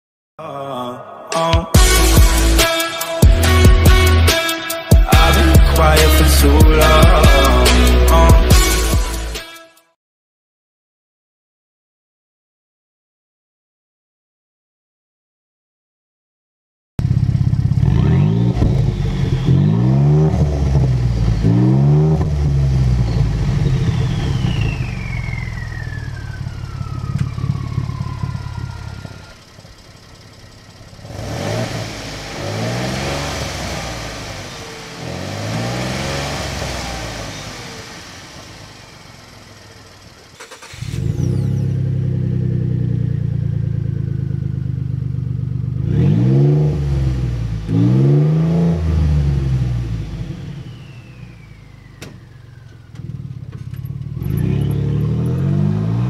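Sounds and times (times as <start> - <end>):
truck exhaust revving: 1.8 - 9.4, 17.0 - 56.0.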